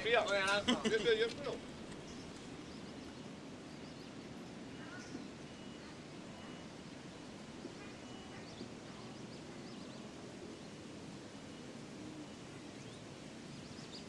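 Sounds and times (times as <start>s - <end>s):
low background hum: 0.0s - 14.0s
small birds chirping: 0.0s - 14.0s.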